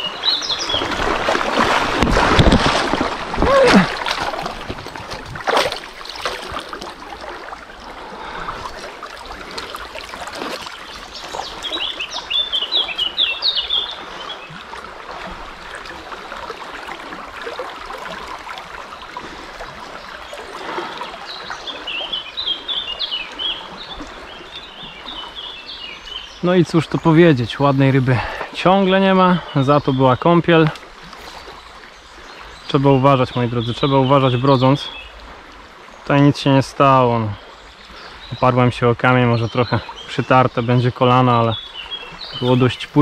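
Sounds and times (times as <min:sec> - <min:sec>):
flowing river: 0:00.0 - 0:43.0.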